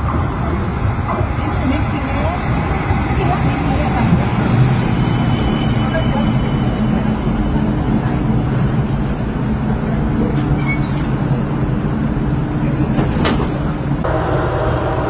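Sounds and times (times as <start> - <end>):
tram electric hum: 0.0 - 15.0.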